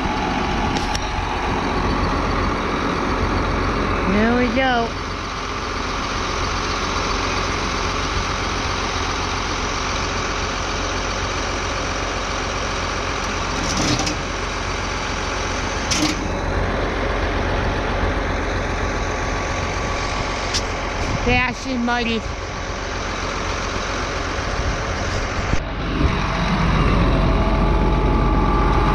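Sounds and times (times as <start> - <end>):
tractor diesel engine running: 0.0 - 28.9.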